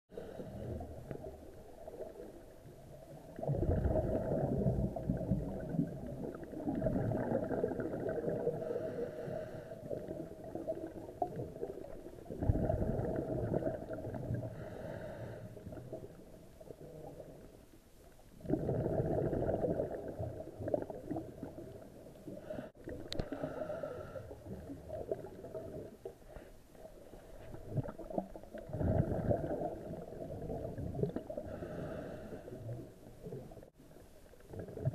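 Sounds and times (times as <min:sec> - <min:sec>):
scuba breathing with exhaled bubbles: 0:00.1 - 0:17.6, 0:18.3 - 0:34.9.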